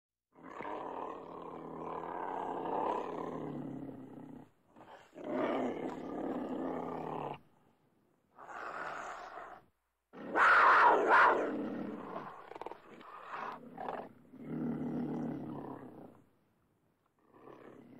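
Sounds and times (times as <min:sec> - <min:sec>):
cougar growling: 0:00.3 - 0:07.5, 0:08.4 - 0:16.3, 0:17.2 - 0:17.9.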